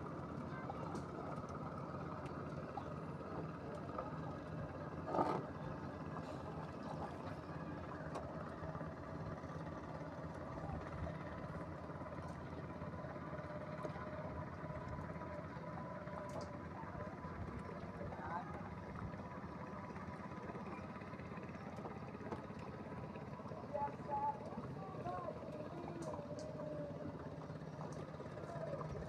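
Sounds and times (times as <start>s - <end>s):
low motor hum: 0.0s - 29.0s.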